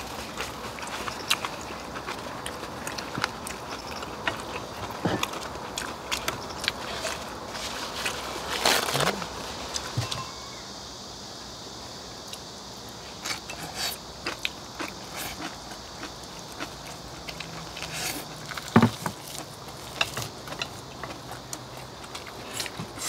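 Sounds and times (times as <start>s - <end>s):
chewing: 0.0s - 9.1s, 13.1s - 23.0s.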